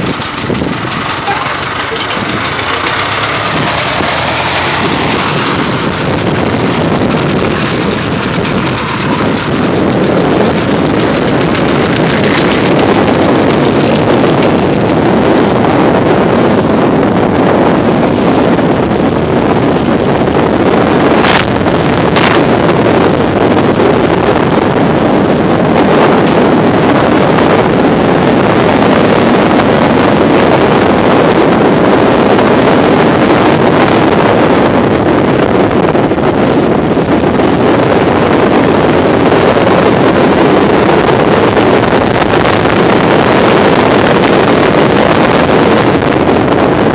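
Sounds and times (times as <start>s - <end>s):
scooter engine running: 0.0s - 46.9s
wind buffeting microphone: 0.0s - 46.9s.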